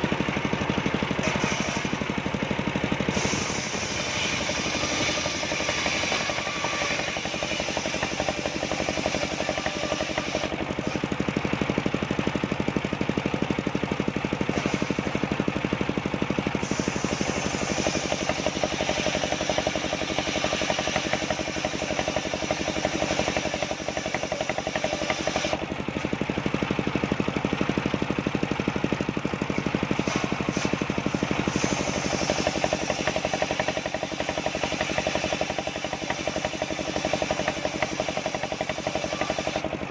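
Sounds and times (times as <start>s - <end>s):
sawmill engine pulsing: 0.0s - 39.9s
saw hissing through wood: 0.9s - 2.3s, 3.0s - 11.5s, 14.2s - 26.2s, 29.1s - 39.8s.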